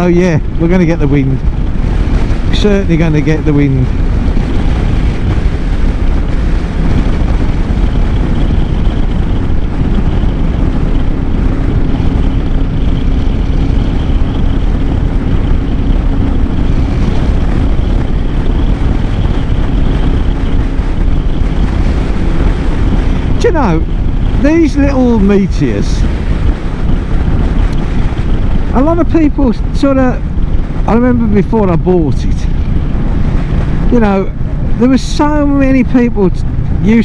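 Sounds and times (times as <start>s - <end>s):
motorcycle engine cruising: 0.0s - 37.0s
wind buffeting microphone: 0.0s - 37.0s.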